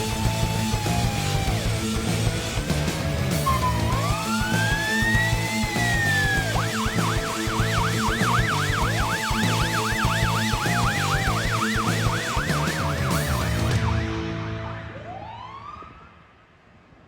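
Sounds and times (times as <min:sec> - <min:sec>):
siren falling in pitch: 0:00.0 - 0:02.0, 0:03.3 - 0:16.4
electronic siren yelping: 0:00.0 - 0:02.2, 0:03.3 - 0:14.3, 0:14.9 - 0:16.2.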